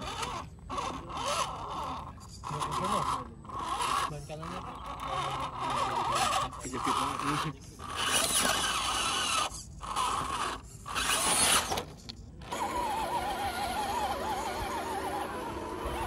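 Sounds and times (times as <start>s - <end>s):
rc truck motor whining: 0.0s - 16.0s.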